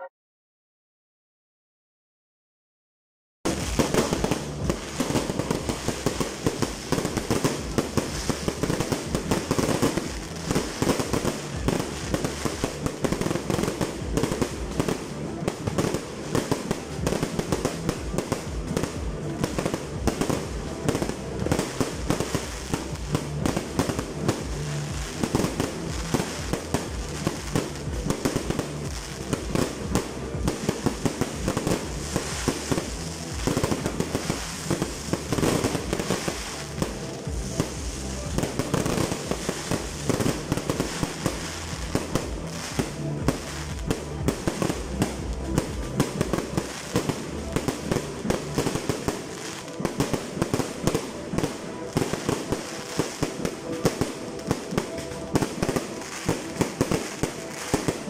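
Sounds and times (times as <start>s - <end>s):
fireworks bangs: 3.5s - 58.0s.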